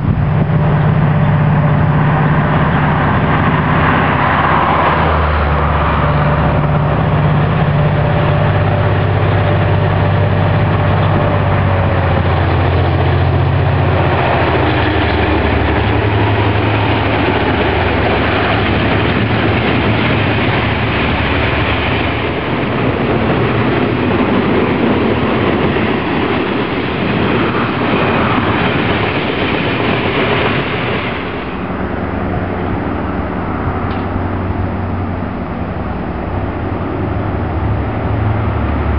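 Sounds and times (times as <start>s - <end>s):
diesel locomotive engine drone: 0.0s - 38.9s
train wagons rolling on track: 0.0s - 38.9s.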